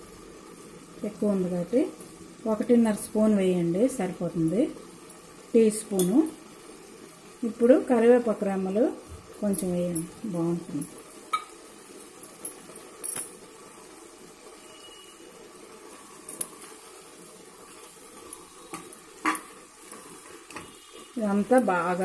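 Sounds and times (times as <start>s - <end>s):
curry bubbling and sizzling: 0.0s - 22.0s.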